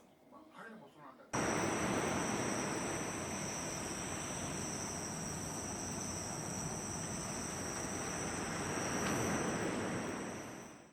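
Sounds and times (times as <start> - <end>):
insects trilling: 1.4 - 10.7
rushing background noise: 1.4 - 10.7.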